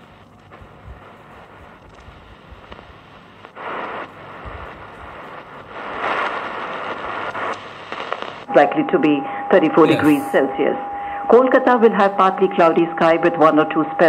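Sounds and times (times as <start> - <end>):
radio static hissing: 0.0 - 14.0.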